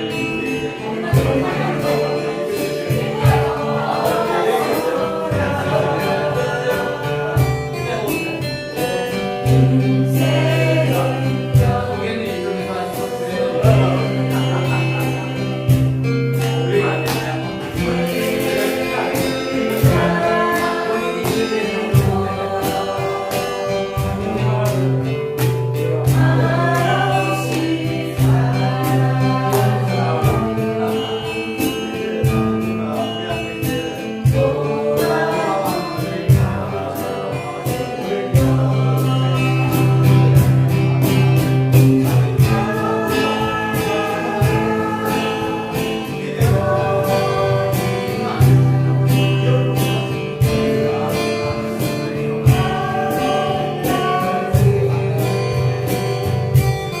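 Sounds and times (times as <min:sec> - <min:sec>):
acoustic guitars strummed: 0:00.0 - 0:57.0
voices singing together: 0:00.0 - 0:57.0.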